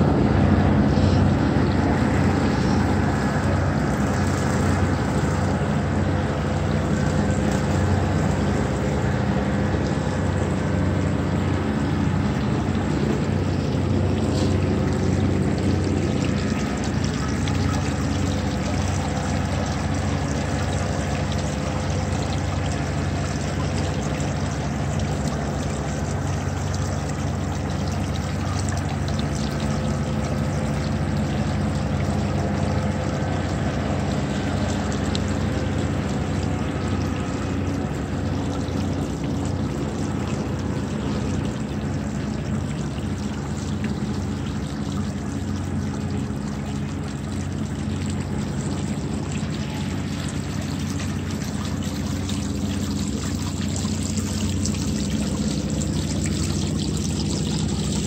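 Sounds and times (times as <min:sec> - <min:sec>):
fountain water splashing: 0:00.0 - 0:58.0
low hum: 0:00.0 - 0:58.0.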